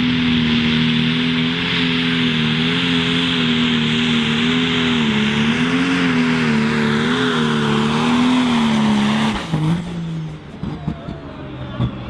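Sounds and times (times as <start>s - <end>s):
tractor diesel engine at full throttle: 0.0s - 12.0s.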